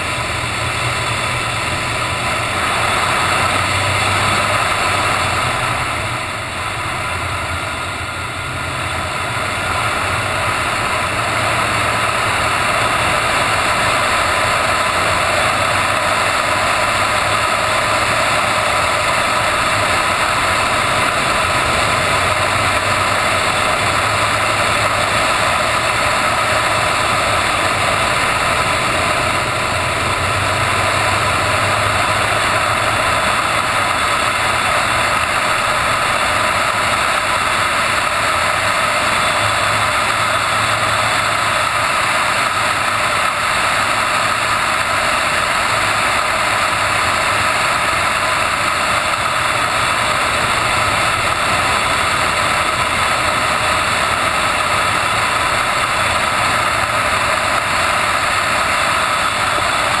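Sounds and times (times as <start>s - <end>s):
car engine at speed: 0.0s - 60.0s
wind and road noise: 0.0s - 60.0s.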